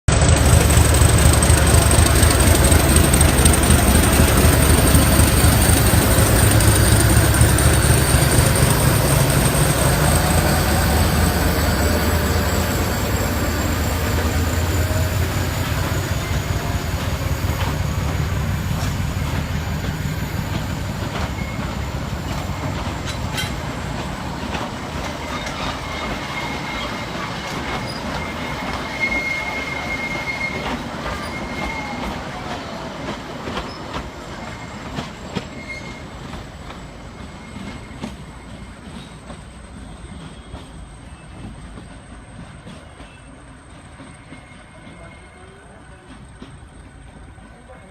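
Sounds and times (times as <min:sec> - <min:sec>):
train rumbling on rails: 0:00.0 - 0:47.9
high whine from train wheels: 0:00.1 - 0:47.9.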